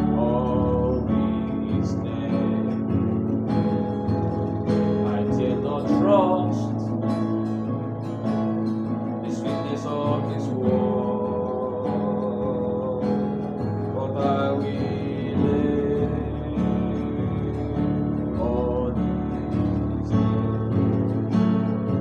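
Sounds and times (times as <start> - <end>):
acoustic guitar playing: 0.0 - 22.0
person singing slow melody: 0.0 - 22.0.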